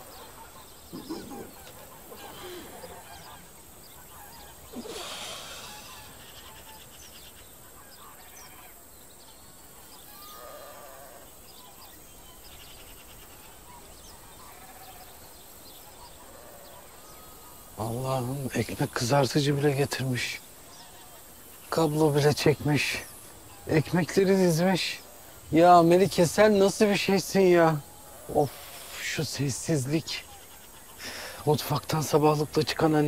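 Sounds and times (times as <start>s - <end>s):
geese honking: 0.0s - 8.9s, 9.7s - 33.0s
small birds chirping faintly: 0.0s - 33.0s.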